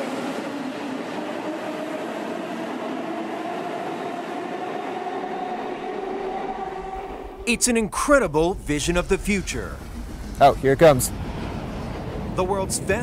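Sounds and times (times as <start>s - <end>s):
train rushing noise: 0.0s - 13.0s.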